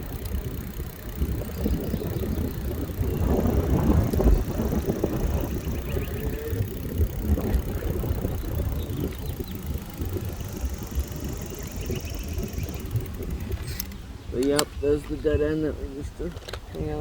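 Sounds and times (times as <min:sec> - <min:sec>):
bicycle tyre and frame noise: 0:00.0 - 0:14.3
wind rumbling on microphone: 0:00.0 - 0:17.0.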